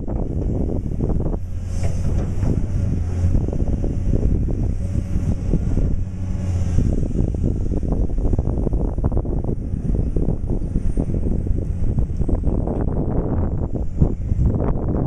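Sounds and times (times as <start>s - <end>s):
excavator diesel engine running: 0.0s - 15.0s
wind buffeting microphone: 0.0s - 15.0s.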